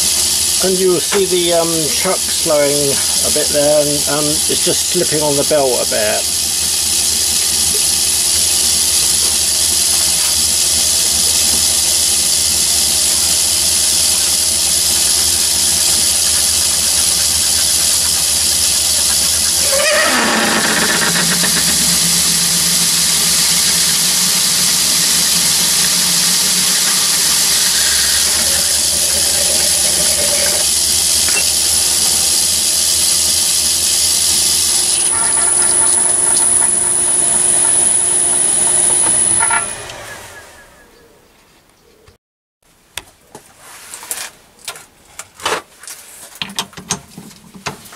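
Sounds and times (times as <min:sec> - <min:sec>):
lathe running with high hiss: 0:00.0 - 0:40.6.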